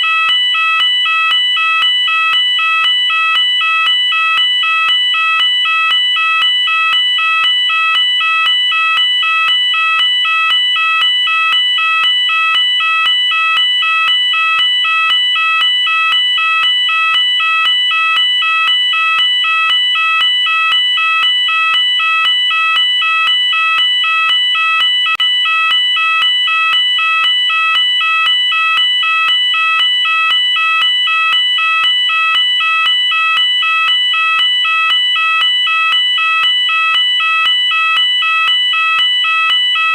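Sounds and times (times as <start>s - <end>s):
fire alarm sounder: 0.0s - 39.9s.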